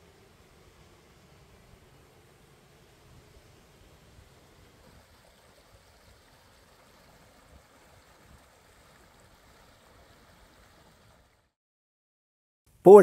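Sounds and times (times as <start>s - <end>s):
faint rush of water: 0.0s - 11.6s.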